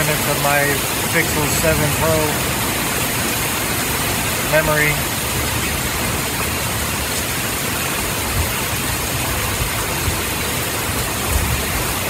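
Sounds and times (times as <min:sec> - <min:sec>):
torrential rain pouring: 0:00.0 - 0:12.0.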